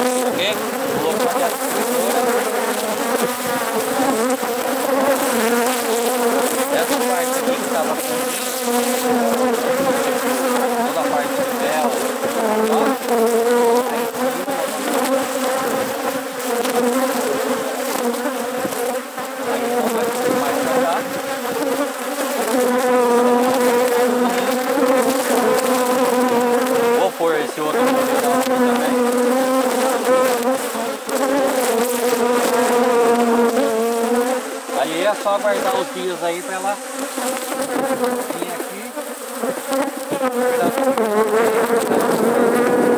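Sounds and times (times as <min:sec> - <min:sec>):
honey bees buzzing: 0:00.0 - 0:42.9.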